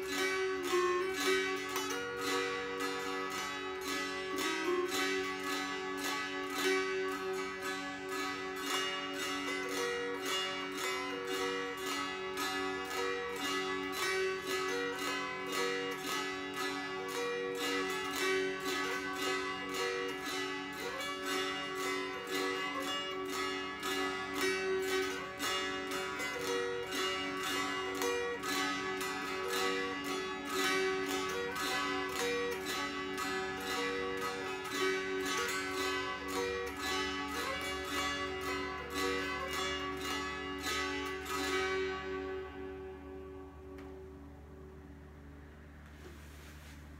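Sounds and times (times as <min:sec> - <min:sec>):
strummed zither with drone: 0:00.0 - 0:46.9.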